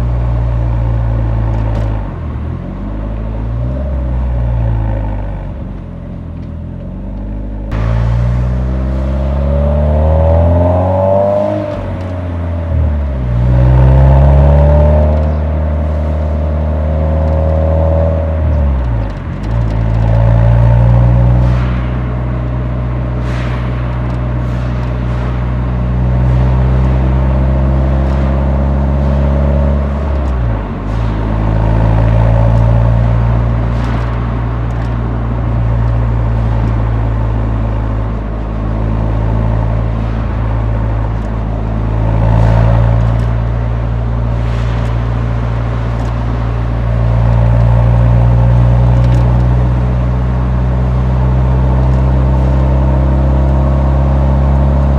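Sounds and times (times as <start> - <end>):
car exhaust drone while driving: 0.0 - 54.9.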